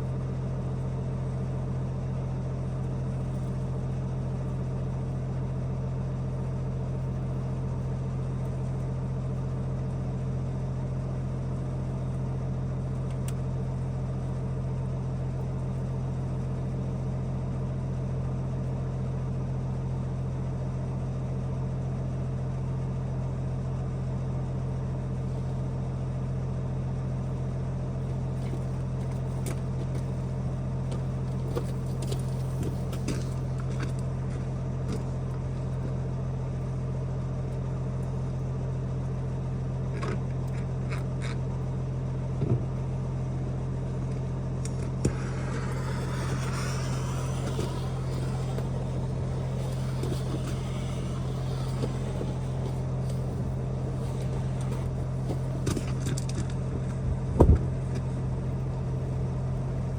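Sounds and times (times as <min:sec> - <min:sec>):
low motor hum: 0:00.0 - 0:19.2, 0:23.7 - 0:59.9.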